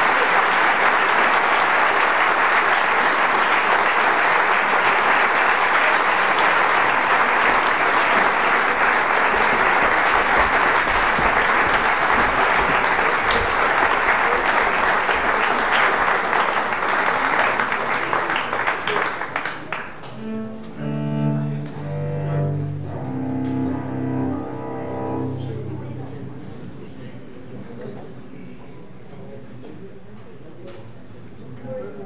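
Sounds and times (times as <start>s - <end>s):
audience applauding: 0.0s - 26.9s.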